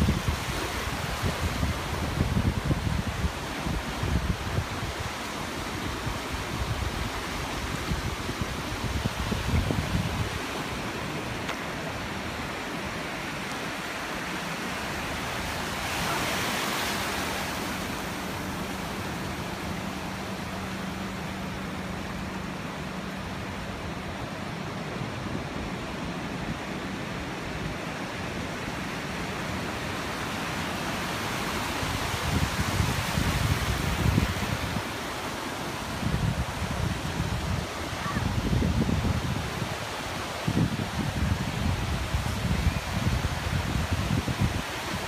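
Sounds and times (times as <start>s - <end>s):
ocean surf on beach: 0.0s - 45.0s.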